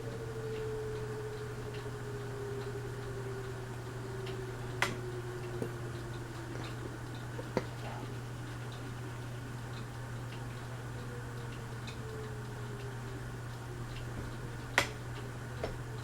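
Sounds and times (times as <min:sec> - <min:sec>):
ceiling fan humming: 0:00.0 - 0:16.0
faint ticking: 0:00.0 - 0:16.0.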